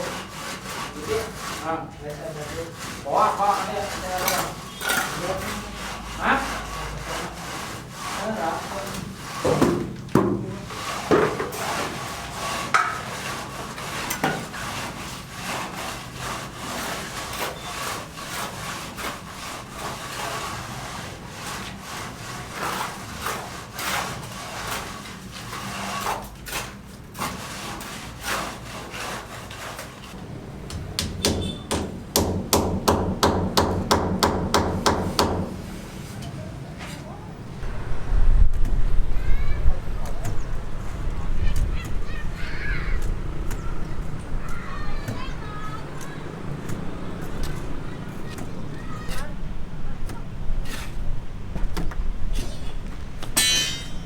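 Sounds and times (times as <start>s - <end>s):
hand tools knocking and scraping timber: 0.0s - 37.4s, 40.0s - 54.0s.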